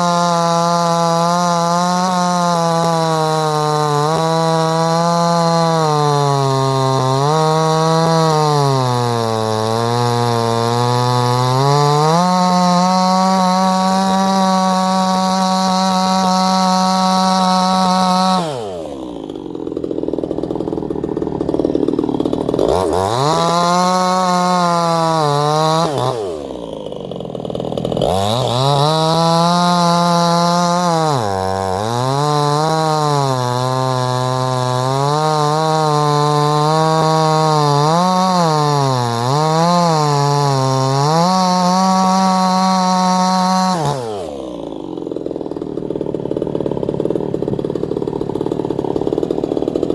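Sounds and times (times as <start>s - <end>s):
chainsaw running at high revs: 0.0s - 49.9s.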